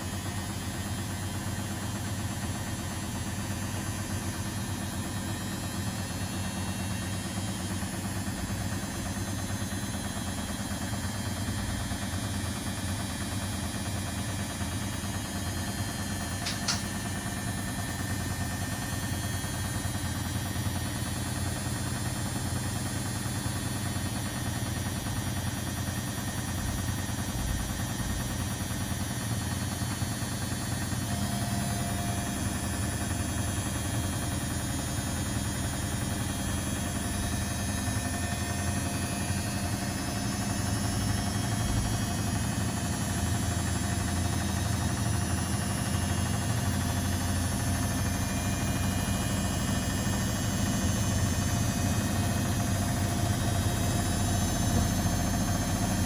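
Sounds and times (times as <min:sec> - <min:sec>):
washing machines humming: 0:00.0 - 0:56.0.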